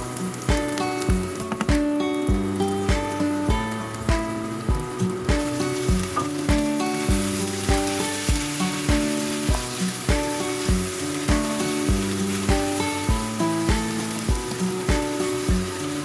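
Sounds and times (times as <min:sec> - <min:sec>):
background music with steady beat: 0:00.0 - 0:16.0
chicken sizzling in hot oil: 0:00.0 - 0:16.0.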